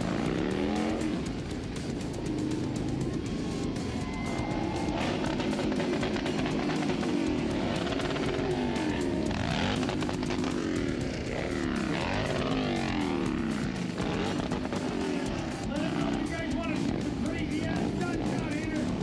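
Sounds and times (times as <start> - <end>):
motorcycle engines revving: 0.0 - 19.0
music playing: 0.0 - 19.0.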